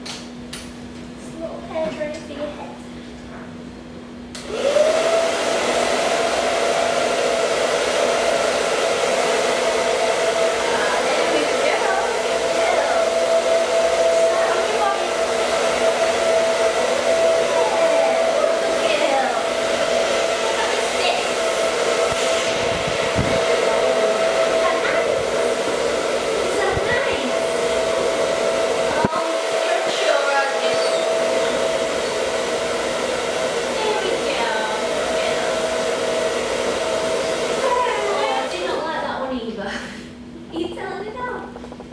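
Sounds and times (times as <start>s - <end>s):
hair dryer running: 0.0s - 41.9s.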